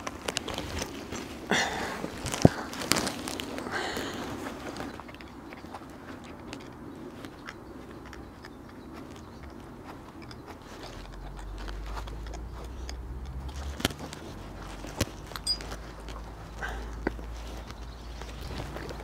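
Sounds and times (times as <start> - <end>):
gritty crunching and scraping: 0.0 - 19.0.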